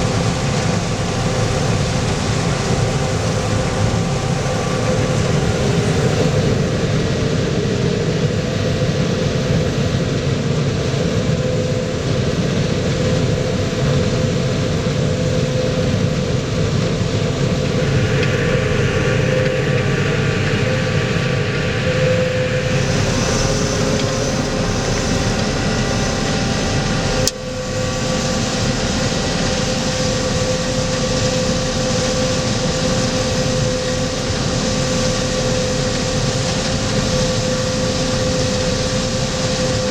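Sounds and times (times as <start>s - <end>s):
diesel engine running: 0.0s - 39.9s
steady whine: 0.0s - 39.9s.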